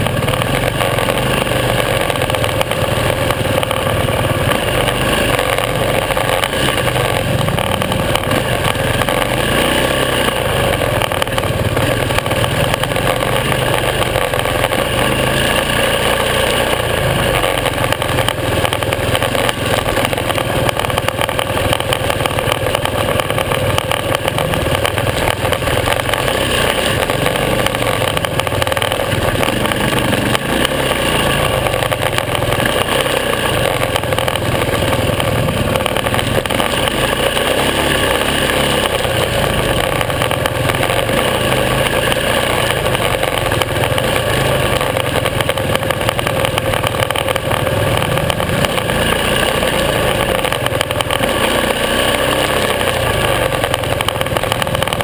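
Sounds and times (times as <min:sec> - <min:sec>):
motorcycle engine droning: 0:00.0 - 0:55.0.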